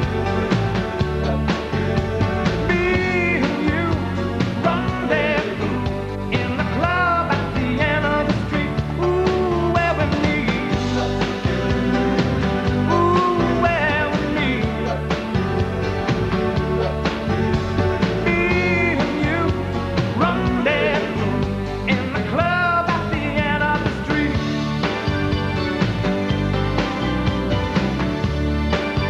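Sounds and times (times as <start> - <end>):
rock band playing: 0.0 - 29.0
steady drum beat: 0.0 - 29.0.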